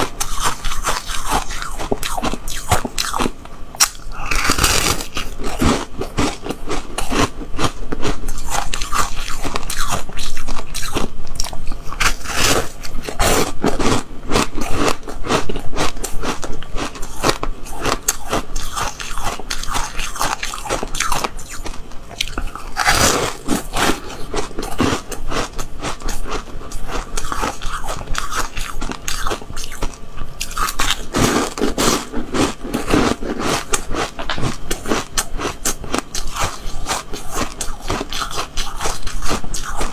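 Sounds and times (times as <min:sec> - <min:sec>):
person crunching frozen ice: 0:00.1 - 0:39.9.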